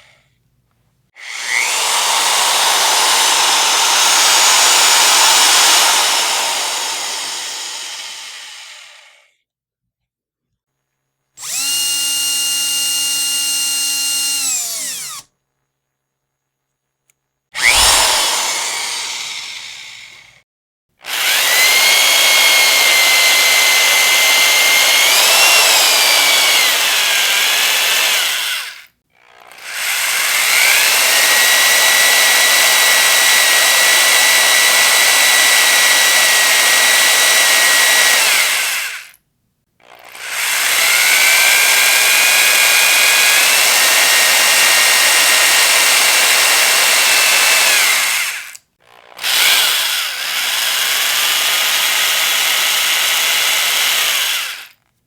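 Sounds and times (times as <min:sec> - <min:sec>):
power drill motor whining: 0:01.2 - 0:09.2, 0:11.4 - 0:15.3, 0:17.6 - 0:20.4, 0:21.0 - 0:39.2, 0:40.0 - 0:54.8.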